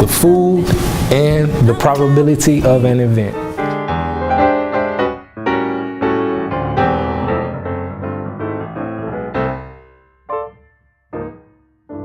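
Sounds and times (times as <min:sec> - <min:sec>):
piano chords and melody: 0:00.7 - 0:12.0.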